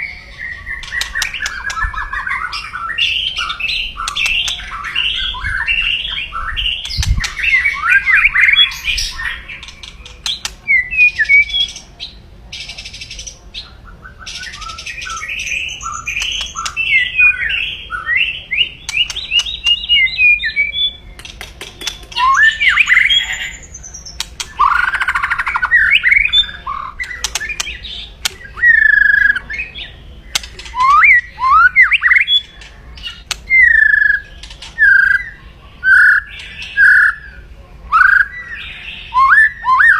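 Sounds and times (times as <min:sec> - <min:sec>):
bird singing harsh song: 0:00.0 - 0:39.9.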